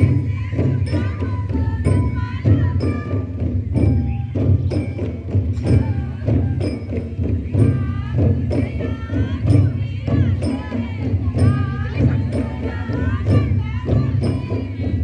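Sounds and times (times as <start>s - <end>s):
steady percussion beat: 0.0s - 15.0s.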